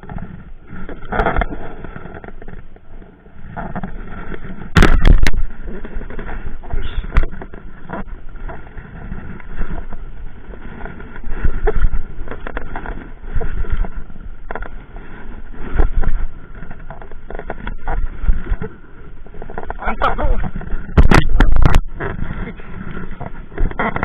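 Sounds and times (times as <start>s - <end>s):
knocking and rubbing of boat gear: 0.0s - 24.0s
low wind rumble: 0.0s - 24.0s.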